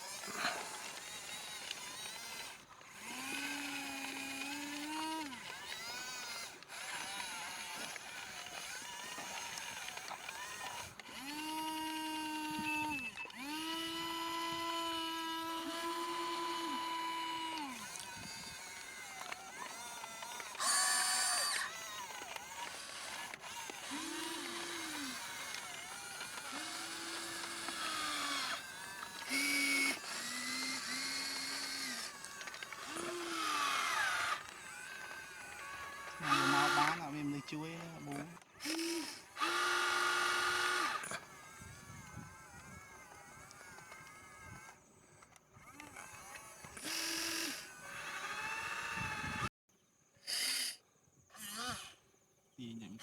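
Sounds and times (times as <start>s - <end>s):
harsh motor burst: 0.0s - 44.8s, 45.6s - 49.5s
whining toy electric motors: 0.0s - 49.5s, 50.2s - 53.0s.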